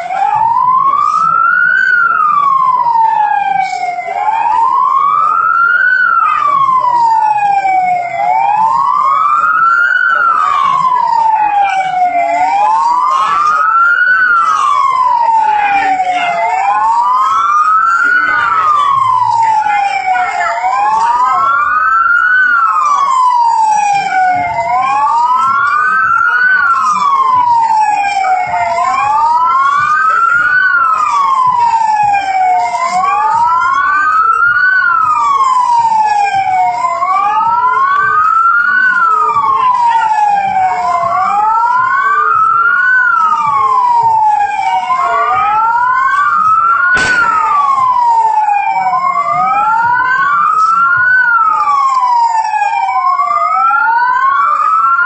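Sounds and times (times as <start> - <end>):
emergency siren wailing: 0.0 - 55.0.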